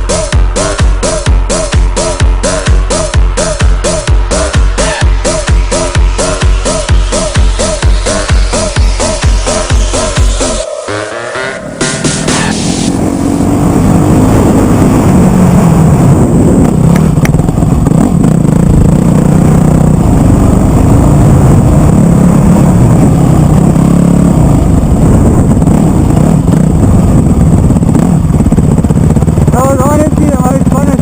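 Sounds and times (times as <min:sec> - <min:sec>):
motocross bike engine revving: 0:00.0 - 0:31.0.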